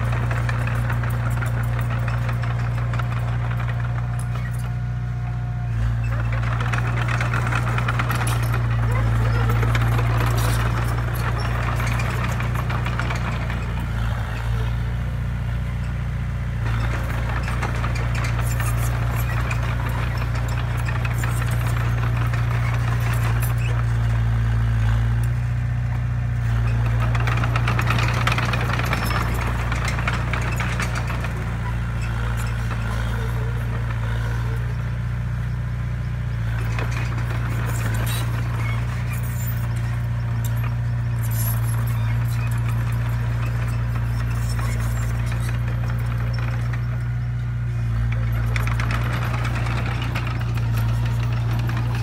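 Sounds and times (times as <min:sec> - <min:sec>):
machine rattling: 0:00.0 - 0:04.8, 0:05.9 - 0:14.9, 0:16.6 - 0:24.4, 0:26.6 - 0:35.1, 0:36.4 - 0:52.0
bulldozer diesel engine humming: 0:00.0 - 0:52.0.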